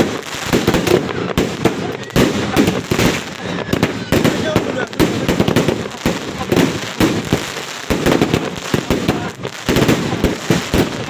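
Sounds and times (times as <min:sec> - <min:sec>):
continuous crackling: 0:00.0 - 0:11.0
firecrackers cracking and banging: 0:00.0 - 0:11.0.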